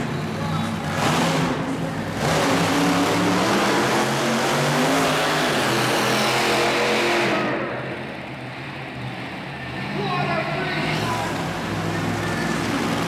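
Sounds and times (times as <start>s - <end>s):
truck engine at full throttle: 0.0s - 13.0s.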